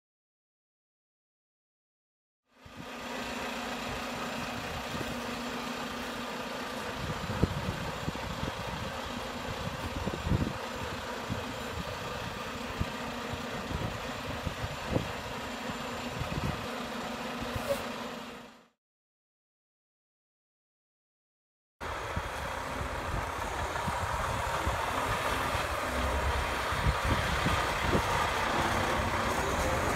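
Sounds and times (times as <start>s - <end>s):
truck diesel engine droning: 2.5s - 18.8s, 21.8s - 29.9s.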